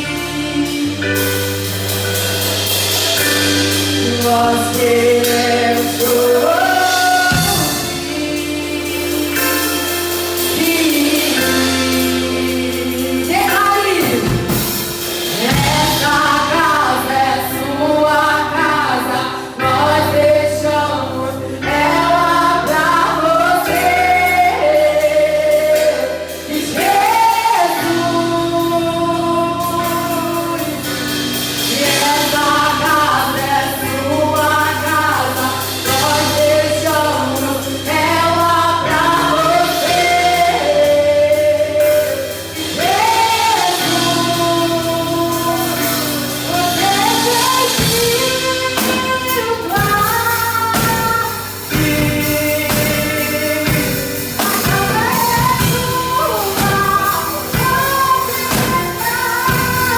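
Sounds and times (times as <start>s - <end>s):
band with sustained bass: 0.0s - 59.9s
group singing worship song: 0.0s - 59.9s.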